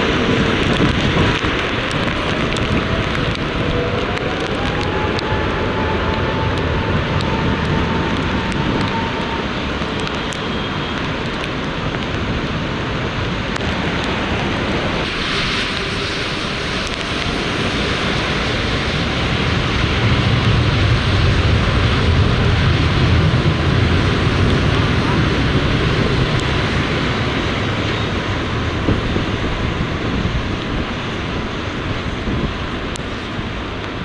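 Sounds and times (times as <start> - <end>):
deep rumble: 0.0 - 34.0
strong wind blowing on microphone: 0.0 - 34.0.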